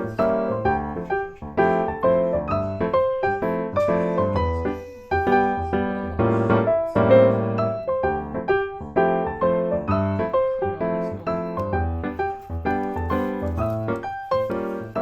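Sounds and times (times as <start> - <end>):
bouncy piano instrumental with bass: 0.0 - 15.0.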